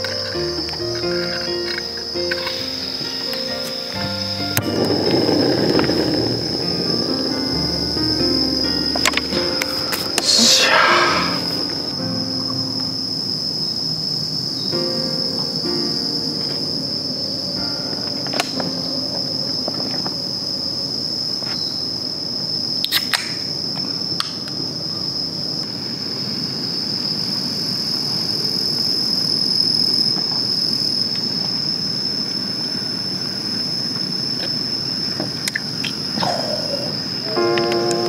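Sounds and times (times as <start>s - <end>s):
insects singing high-pitched drone: 0.0s - 38.0s.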